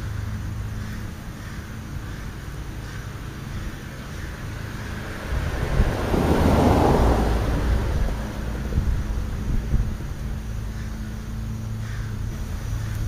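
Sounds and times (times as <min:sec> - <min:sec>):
car passing: 0:00.0 - 0:13.0
steady low rumble: 0:00.0 - 0:13.0.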